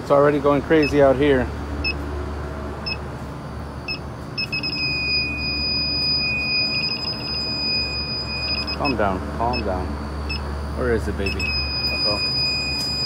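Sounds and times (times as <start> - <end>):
leak detector beeping: 0.7 - 1.2, 2.8 - 13.0.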